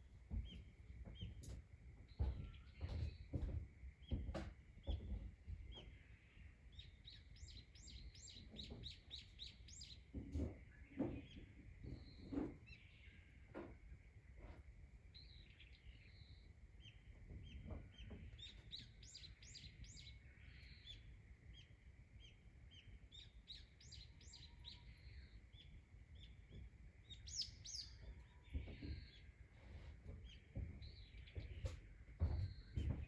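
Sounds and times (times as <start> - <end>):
small songbirds chirping: 0.0 - 33.0.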